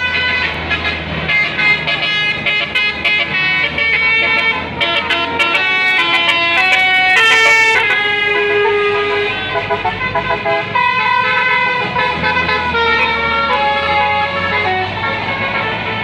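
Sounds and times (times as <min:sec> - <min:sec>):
musical air horn playing tune: 0:00.0 - 0:16.0
vehicle engine running: 0:00.0 - 0:16.0.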